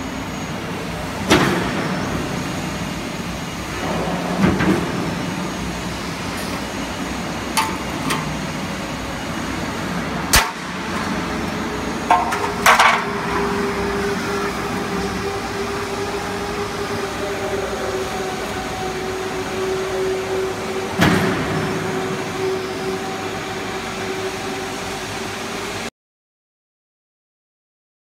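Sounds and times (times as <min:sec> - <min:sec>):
roll forming machine humming: 0:00.0 - 0:25.9.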